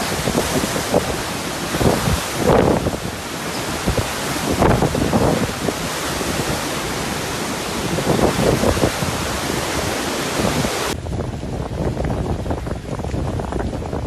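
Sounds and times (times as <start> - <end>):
hurricane wind and rain: 0.0 - 14.0
wind buffeting microphone: 0.0 - 14.0.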